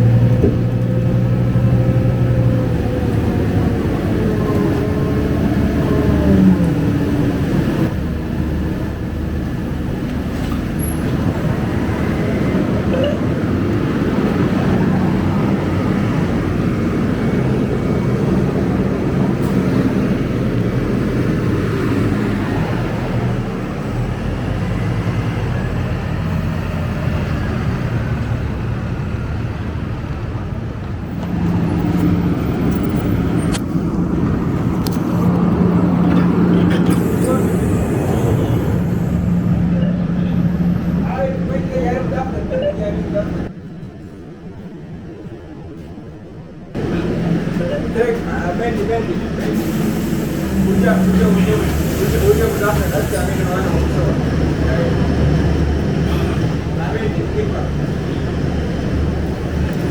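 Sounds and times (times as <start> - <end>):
bus diesel engine running: 0.0 - 59.9
road traffic noise: 0.0 - 59.9.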